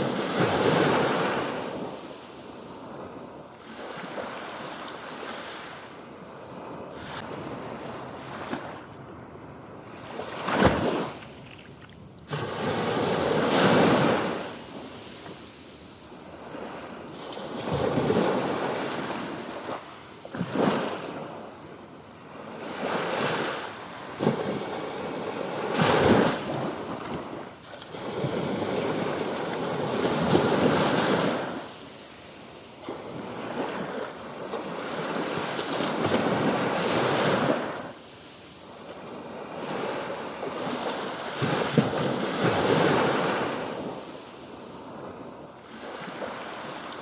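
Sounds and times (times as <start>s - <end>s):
sea waves breaking on beach: 0.0s - 8.9s, 9.8s - 47.0s.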